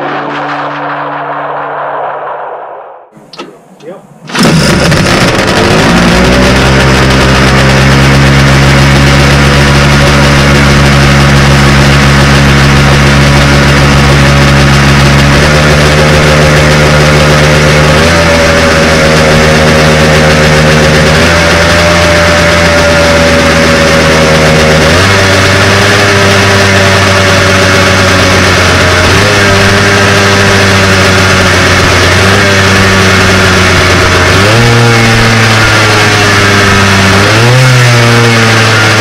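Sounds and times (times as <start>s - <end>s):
snowmobile engine idling: 4.3s - 39.0s.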